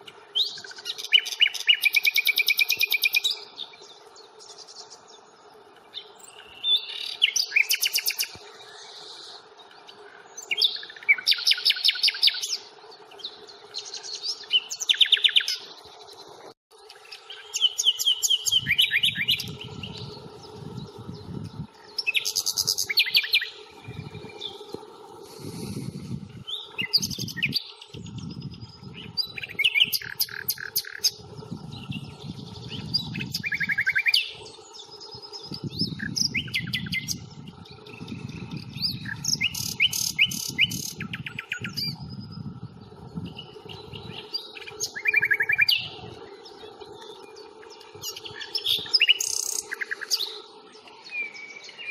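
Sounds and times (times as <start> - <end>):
nightingale singing: 0.0 - 5.3, 5.9 - 15.8, 17.0 - 24.8, 25.4 - 51.9.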